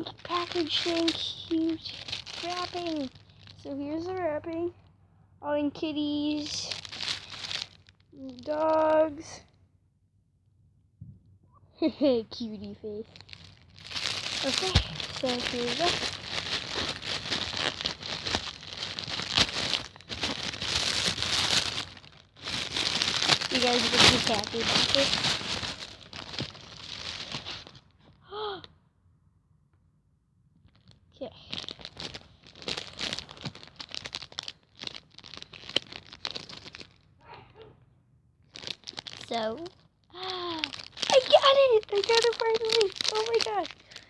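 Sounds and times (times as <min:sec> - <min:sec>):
wrapping crinkling and crackling: 0:00.0 - 0:04.9, 0:05.8 - 0:09.6, 0:12.0 - 0:28.5, 0:30.6 - 0:37.2, 0:38.4 - 0:44.0.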